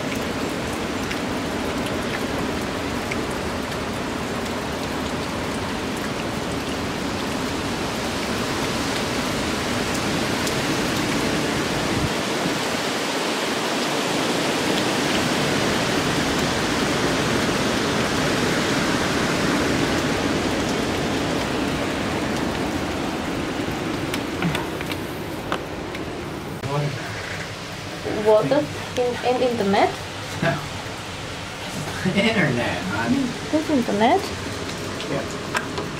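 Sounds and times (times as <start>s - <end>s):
heavy rain: 0.0s - 35.9s
wind: 0.0s - 35.9s.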